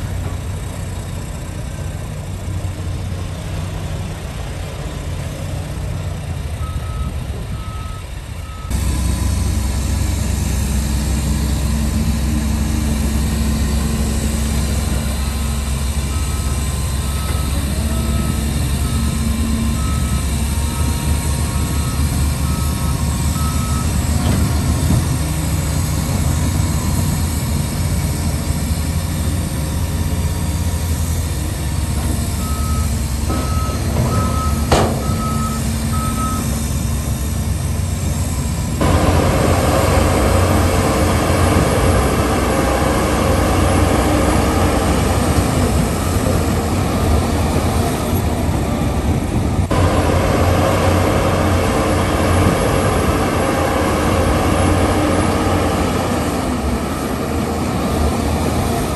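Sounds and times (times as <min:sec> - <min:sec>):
heavy diesel machinery running: 0:00.0 - 0:58.9
truck reversing alarm beeps: 0:06.5 - 0:58.9.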